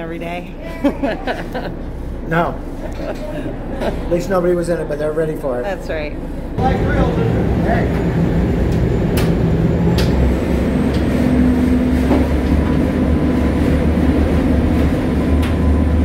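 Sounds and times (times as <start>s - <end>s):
ferry engines low rumble: 0.0s - 16.0s.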